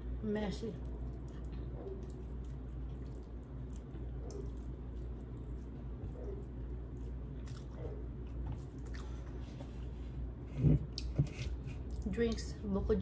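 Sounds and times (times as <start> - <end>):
chewing and wet mouth sounds: 0.6 - 9.9, 10.9 - 12.5.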